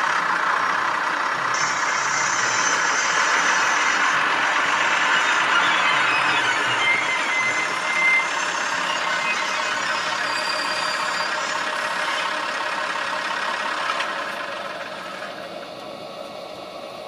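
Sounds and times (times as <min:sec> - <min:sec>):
model railcar diesel sound: 0:00.0 - 0:17.0.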